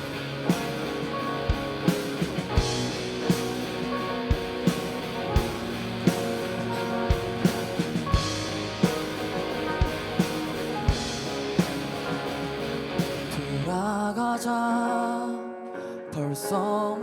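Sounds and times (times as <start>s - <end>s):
steady drum beat: 0.0s - 13.7s
bass: 0.0s - 14.0s
electric guitars: 0.0s - 16.4s
keyboard holding chords: 0.0s - 17.0s.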